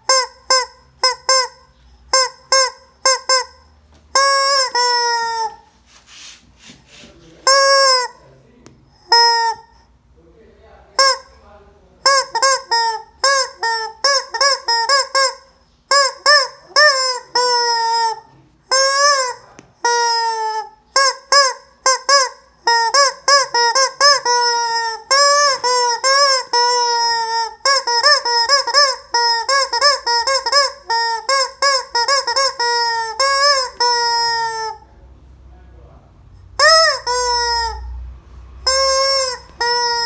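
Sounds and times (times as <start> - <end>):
rubber chicken toy squawking: 0.0 - 5.7, 7.4 - 8.2, 9.0 - 9.8, 11.0 - 11.4, 12.0 - 34.9, 36.6 - 38.0, 38.6 - 40.0.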